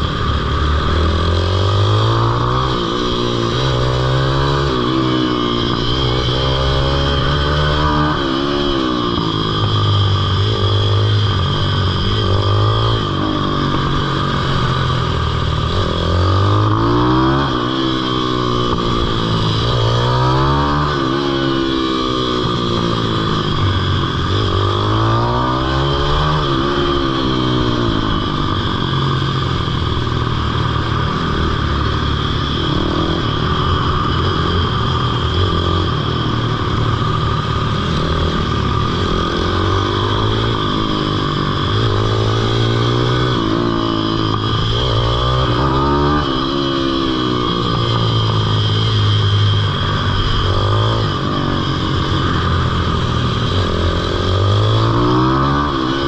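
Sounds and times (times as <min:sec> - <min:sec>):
pitbike engine revving: 0:00.0 - 0:56.0.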